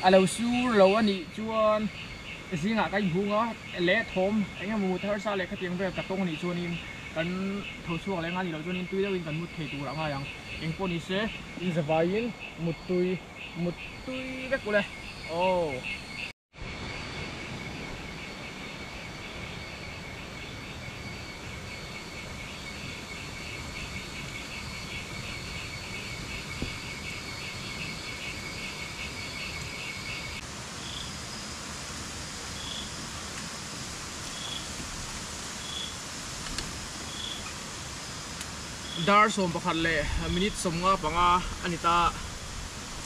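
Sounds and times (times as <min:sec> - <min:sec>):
insect short chirps: 0:00.0 - 0:43.0
insects trilling: 0:00.0 - 0:43.0
steady background hiss: 0:00.0 - 0:43.0.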